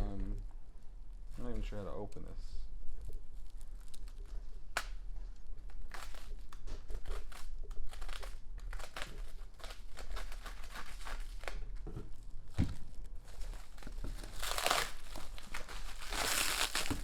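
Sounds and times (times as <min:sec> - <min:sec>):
plastic wrap crinkling and tearing: 0:01.0 - 0:17.0.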